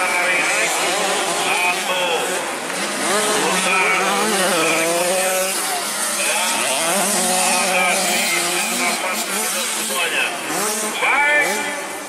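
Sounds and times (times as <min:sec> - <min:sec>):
motocross bike engines buzzing: 0:00.0 - 0:12.0.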